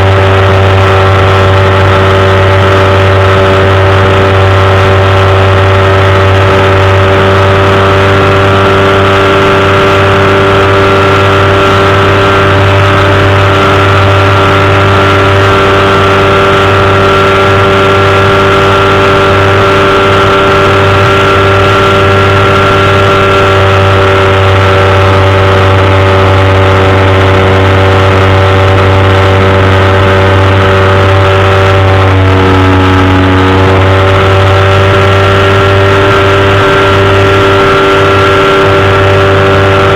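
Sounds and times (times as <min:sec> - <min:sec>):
engine and propeller running: 0:00.0 - 0:39.9.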